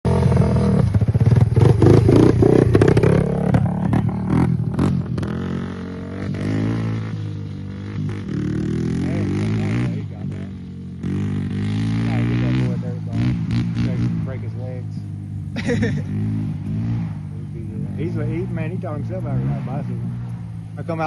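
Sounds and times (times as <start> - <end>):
dirt bike engine revving: 0.1 - 21.0.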